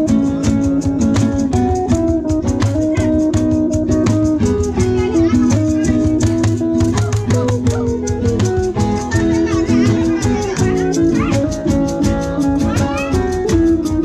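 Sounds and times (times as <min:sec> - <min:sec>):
guitar melody: 0:00.0 - 0:14.0
rattling percussion beat: 0:00.0 - 0:14.0.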